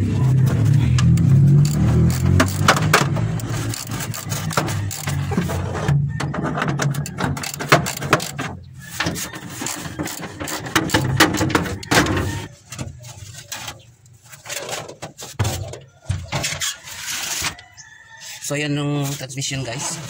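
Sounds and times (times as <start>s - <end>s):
metal clatter and scraping: 0.0s - 20.0s.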